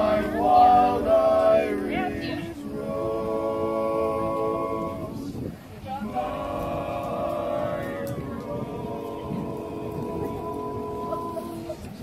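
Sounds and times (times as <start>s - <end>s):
men singing a cappella harmony: 0.0s - 11.8s.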